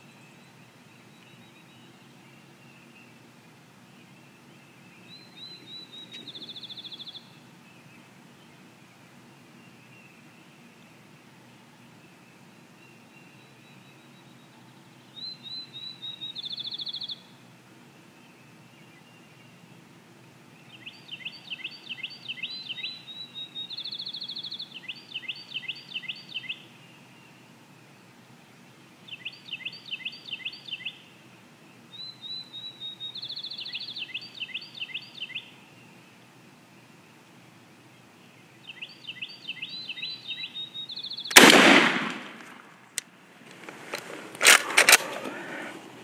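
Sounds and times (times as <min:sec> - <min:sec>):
low background noise: 0:00.0 - 0:46.0
songbirds singing: 0:00.0 - 0:46.0.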